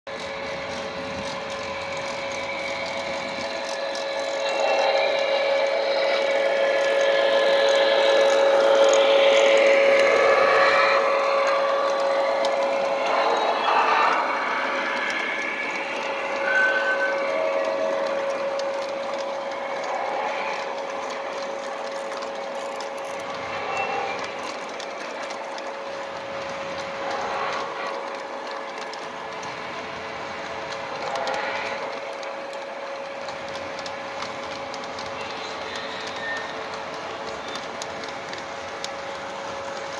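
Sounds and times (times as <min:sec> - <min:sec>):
model train humming: 0:00.1 - 0:39.9
wheels rumbling on metal rails: 0:00.1 - 0:39.9.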